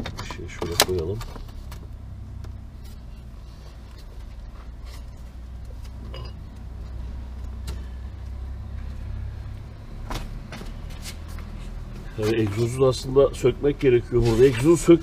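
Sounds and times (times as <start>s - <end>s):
steady low rumble: 1.2s - 15.0s.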